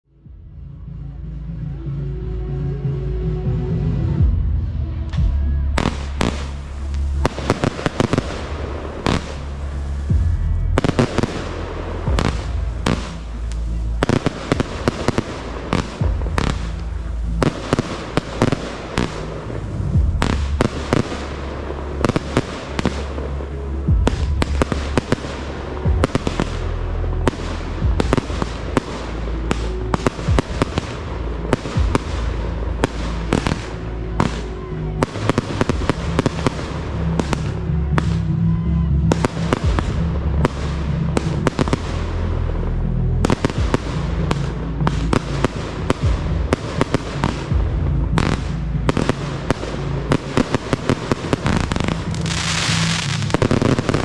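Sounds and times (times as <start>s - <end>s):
music with bass line: 0.1s - 54.0s
fireworks bursting: 4.3s - 54.0s.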